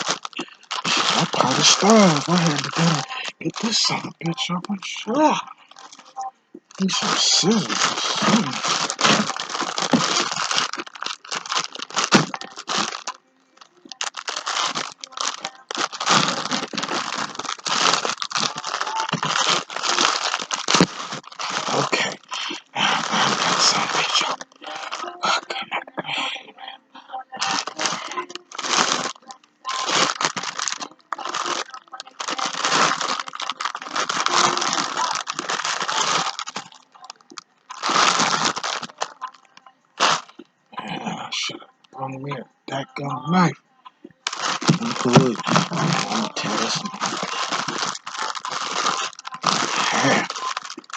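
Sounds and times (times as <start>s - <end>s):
plastic wrap crinkling and tearing: 0.0s - 25.6s, 27.4s - 40.4s, 44.2s - 50.9s.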